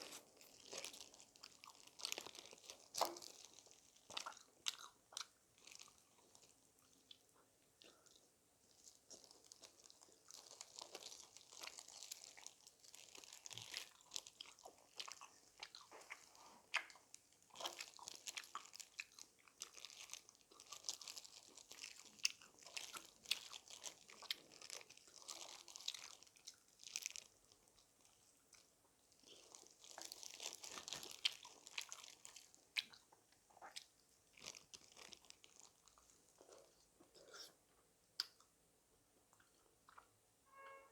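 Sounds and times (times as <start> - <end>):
crunching fried chicken: 0.0 - 36.8.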